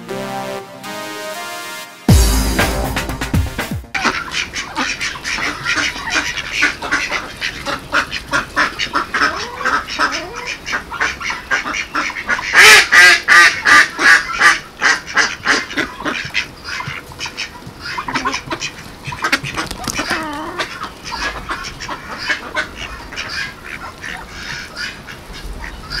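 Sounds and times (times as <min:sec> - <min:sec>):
ducks quacking: 0:03.9 - 0:26.0.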